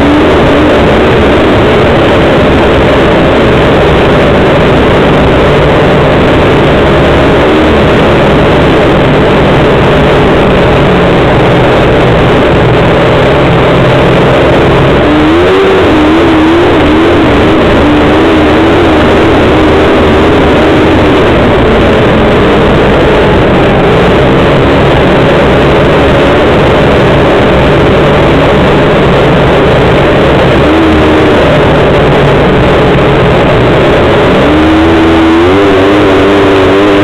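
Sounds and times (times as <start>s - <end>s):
high warbling tone: 0.0s - 37.0s
off-road vehicle engine running: 0.0s - 37.0s.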